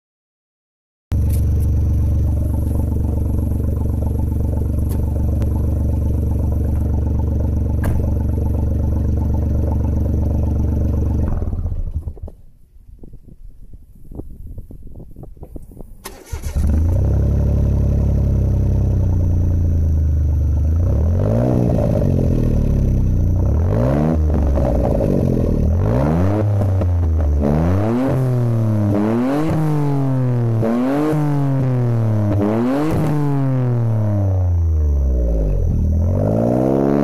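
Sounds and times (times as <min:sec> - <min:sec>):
car engine idling and revving: 0:01.1 - 0:12.4, 0:16.1 - 0:37.0.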